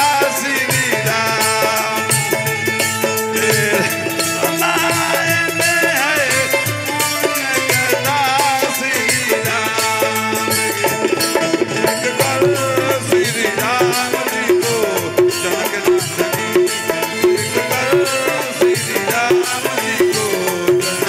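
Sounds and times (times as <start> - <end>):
band playing wavering melody: 1.5 - 21.0.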